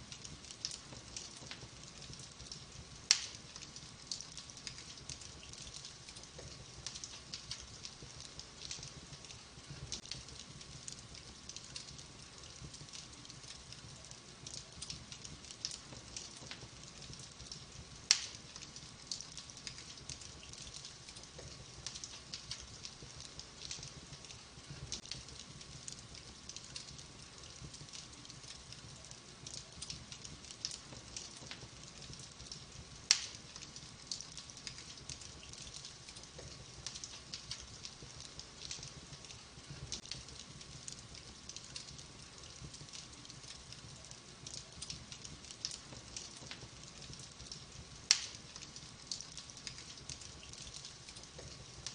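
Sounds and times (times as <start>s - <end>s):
wood fire crackling: 0.0s - 51.9s
loud pops from burning logs: 0.1s - 28.8s, 29.4s - 43.8s, 44.4s - 51.9s.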